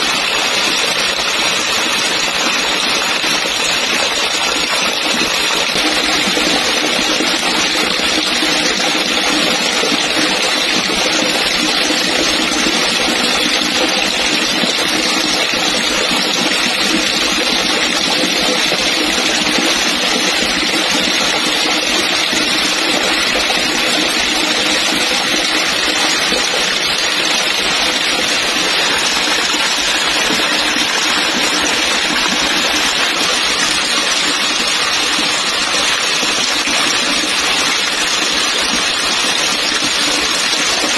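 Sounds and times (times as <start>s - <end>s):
heavy water splashing: 0.0s - 40.9s.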